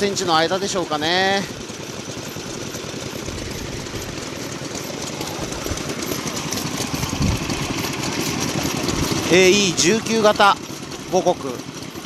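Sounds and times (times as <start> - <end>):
engine knock: 0.0 - 12.0
stationary engine chuffing: 0.0 - 12.0.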